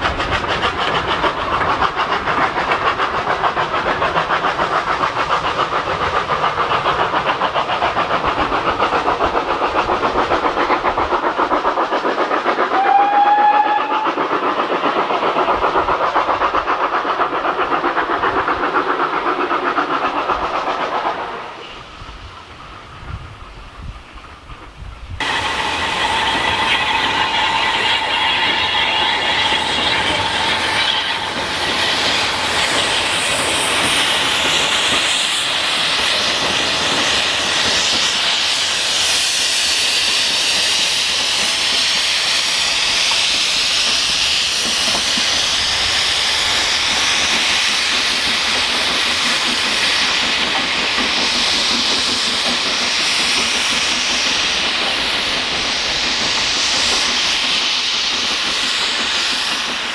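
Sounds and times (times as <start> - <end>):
loud hiss of escaping steam: 0.0 - 59.9
steam locomotive working: 0.0 - 59.9.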